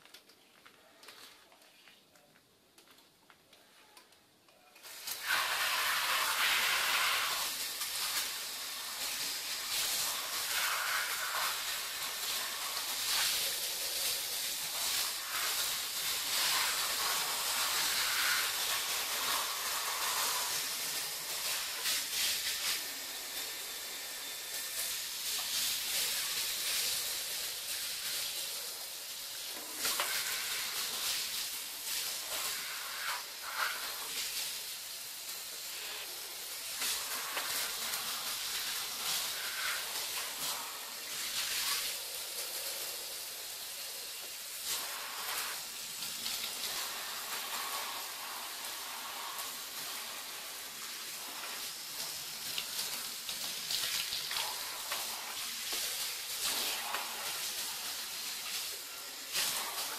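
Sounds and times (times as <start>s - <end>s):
shower spray hissing on bathtub: 4.7s - 59.9s.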